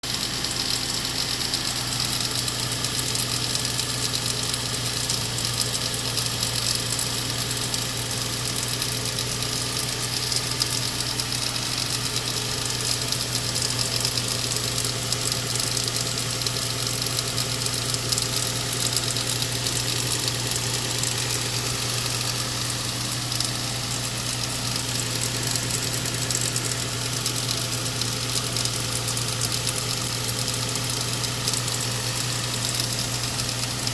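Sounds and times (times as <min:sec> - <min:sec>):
engine running with hum and hiss: 0:00.0 - 0:33.9.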